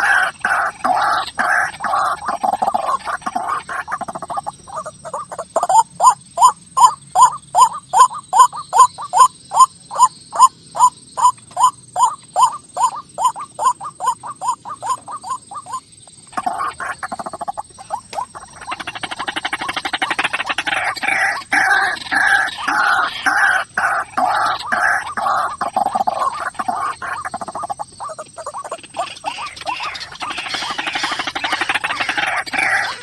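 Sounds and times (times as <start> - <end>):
bird croaking chatter: 0.0 - 33.0.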